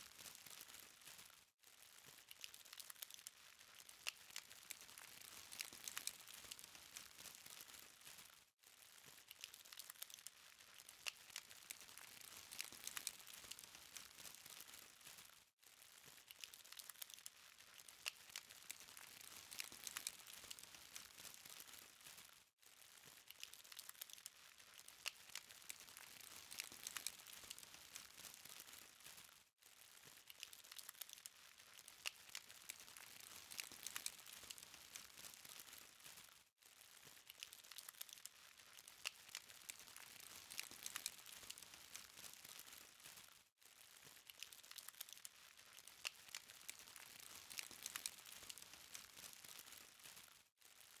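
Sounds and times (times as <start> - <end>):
charcoal fire crackling and popping: 0.0 - 8.3, 9.0 - 15.3, 16.1 - 22.3, 23.1 - 29.2, 30.1 - 36.2, 37.0 - 43.2, 44.0 - 50.2.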